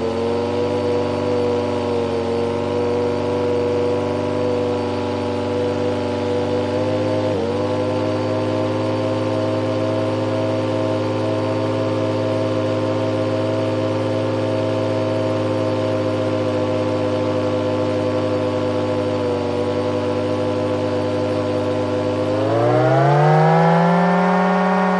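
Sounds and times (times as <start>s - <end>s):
turbine whine: 0.0s - 24.9s.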